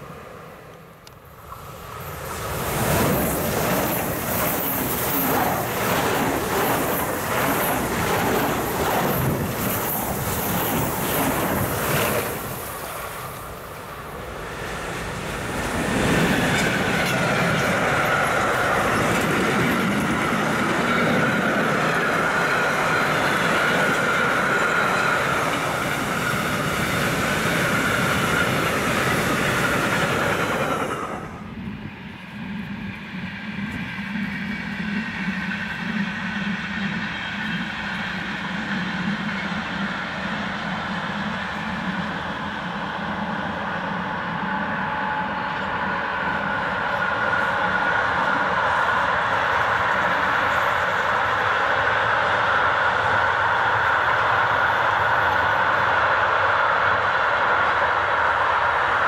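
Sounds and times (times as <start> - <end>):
freight train rolling past: 0.0 - 59.0
high-speed train passing: 0.0 - 59.0.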